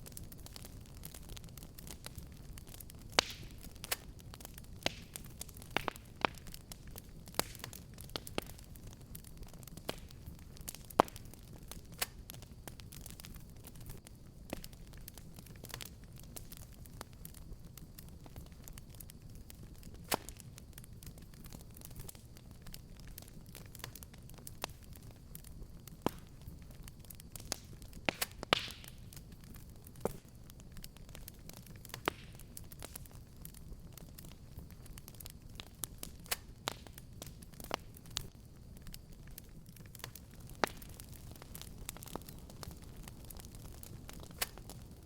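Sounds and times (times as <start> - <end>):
fire crackling and popping: 0.0 - 45.0
low rumble of flames: 0.0 - 45.0.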